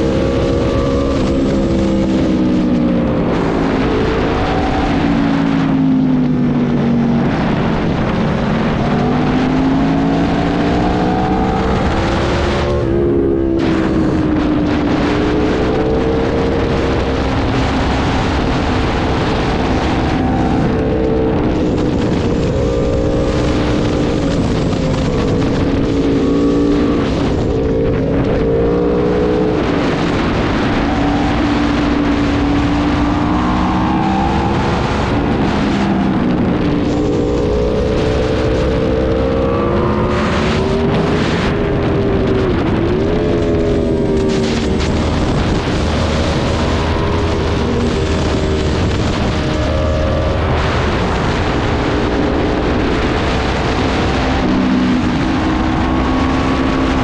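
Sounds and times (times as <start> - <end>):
motorcycle engine at speed: 0.0 - 57.0
wind noise: 0.0 - 57.0.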